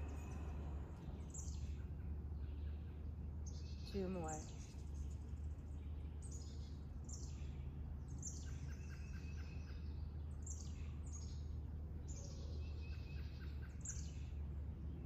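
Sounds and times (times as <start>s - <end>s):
songbirds singing: 0.0s - 15.0s
steady low hum: 0.0s - 15.0s.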